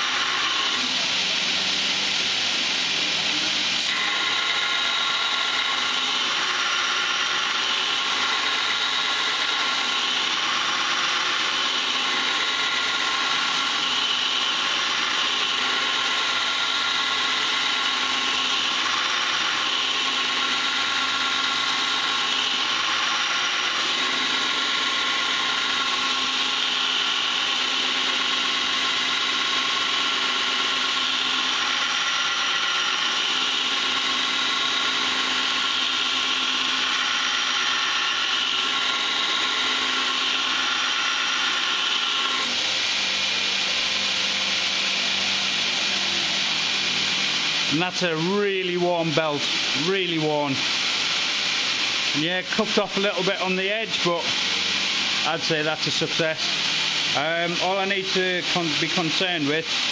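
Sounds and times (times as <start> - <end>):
belt grinder grinding steel: 0.0 - 59.9.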